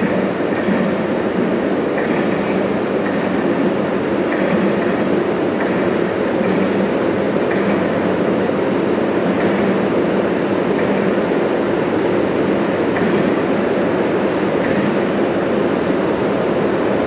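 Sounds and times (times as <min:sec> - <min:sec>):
electric locomotive hum: 0:00.0 - 0:17.0.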